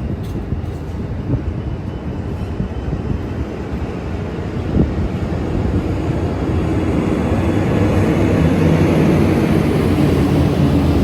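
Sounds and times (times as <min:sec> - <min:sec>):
diesel locomotive engine: 0:00.0 - 0:11.0
train wheels rumbling on rails: 0:00.0 - 0:11.0.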